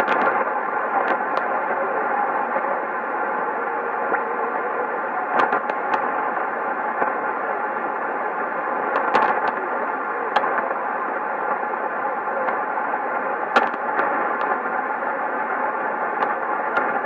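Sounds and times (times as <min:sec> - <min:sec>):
radio band noise hiss: 0:00.0 - 0:17.0
sharp static crackles: 0:00.0 - 0:17.0.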